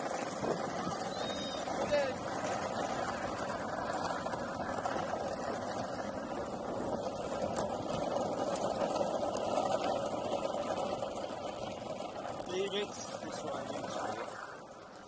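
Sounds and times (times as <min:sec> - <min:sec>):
longboard wheels rolling on tarmac: 0:00.0 - 0:15.0.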